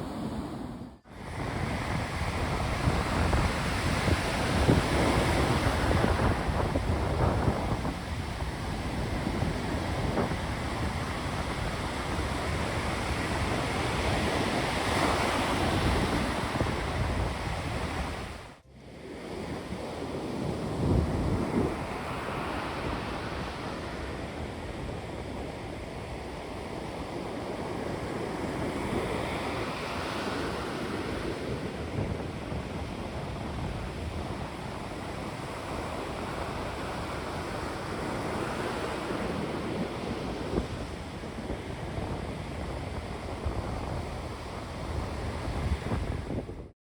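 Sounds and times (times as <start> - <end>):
sea waves washing ashore: 0.0 - 46.7
wind buffeting microphone: 0.0 - 46.7.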